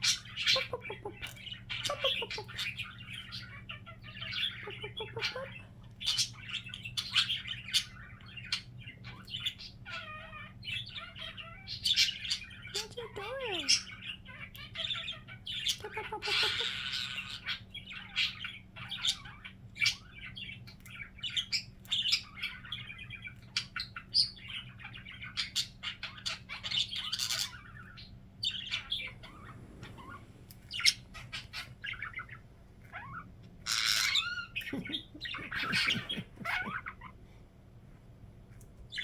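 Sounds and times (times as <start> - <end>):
budgerigars chirping and warbling: 0.0 - 37.2.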